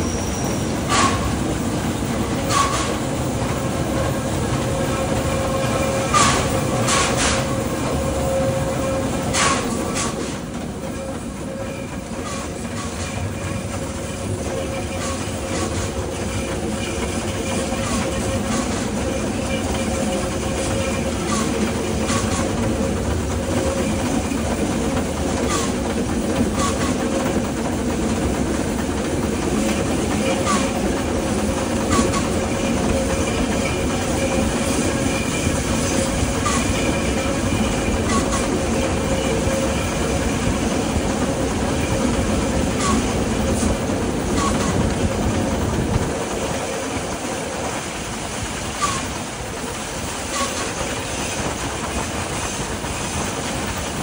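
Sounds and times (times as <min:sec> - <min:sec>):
train running noise: 0:00.0 - 0:54.0
wheels clacking over rail joints: 0:00.0 - 0:54.0.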